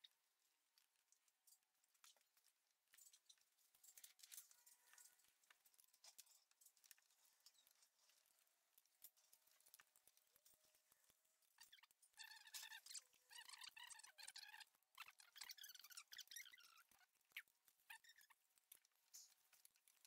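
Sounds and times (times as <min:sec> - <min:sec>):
faint clicks and taps: 0:00.0 - 0:20.0.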